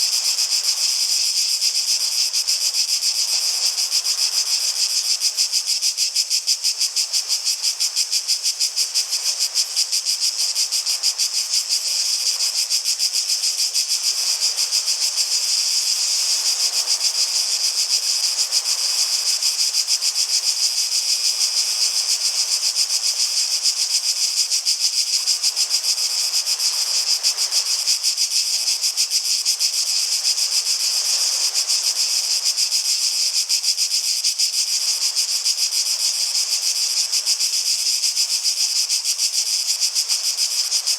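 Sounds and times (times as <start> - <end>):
cicadas singing: 0.0 - 40.9.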